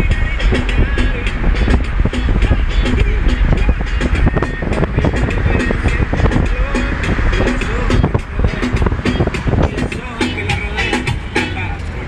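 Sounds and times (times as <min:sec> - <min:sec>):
low rumble of car driving: 0:00.0 - 0:12.0
music with a steady beat: 0:00.0 - 0:12.0.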